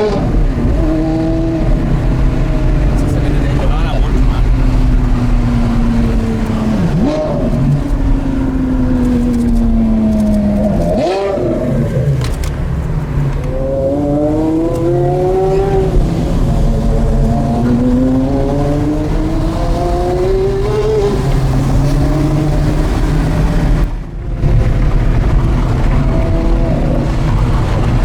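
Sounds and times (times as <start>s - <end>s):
sports car engine accelerating: 0.0s - 28.0s.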